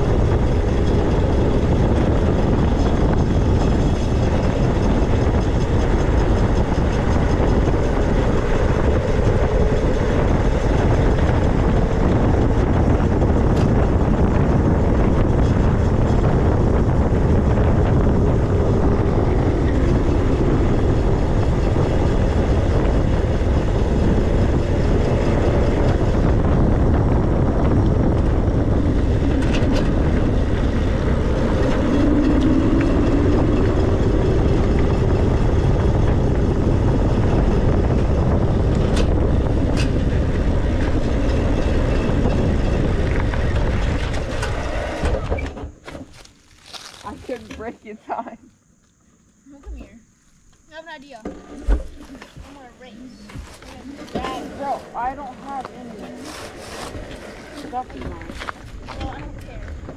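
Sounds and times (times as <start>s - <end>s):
wind on microphone: 0.0s - 48.4s, 49.4s - 59.9s
bike rolling noise: 0.0s - 59.9s.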